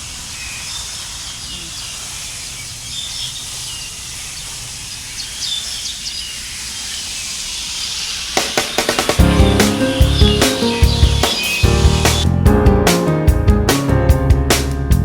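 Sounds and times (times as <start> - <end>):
faint high bird chirps: 0.0 - 12.2.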